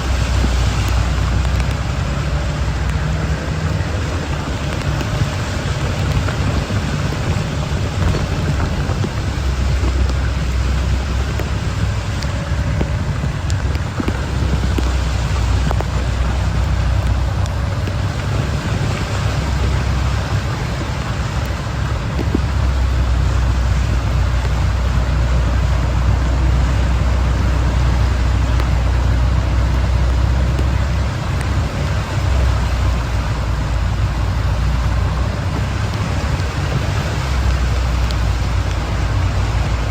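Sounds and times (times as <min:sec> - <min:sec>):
low rumble of vehicle: 0:00.0 - 0:39.9
rain hiss: 0:00.0 - 0:39.9
road traffic: 0:00.0 - 0:39.9.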